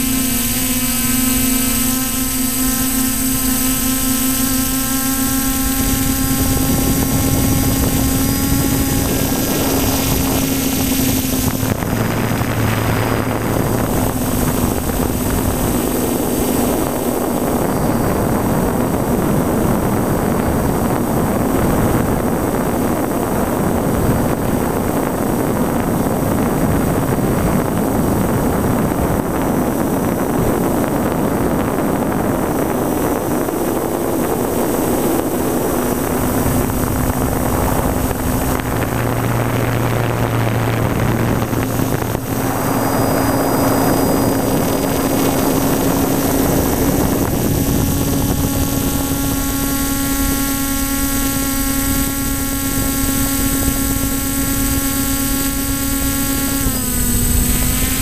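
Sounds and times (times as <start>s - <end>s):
drone propellers whining: 0.0s - 58.0s
wind noise on microphone: 0.0s - 58.0s.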